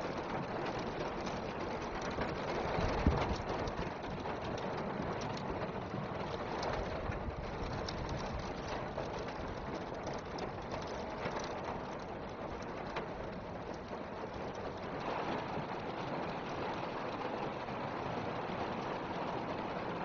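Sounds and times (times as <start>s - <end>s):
heavy rain on a car: 0.0s - 20.0s.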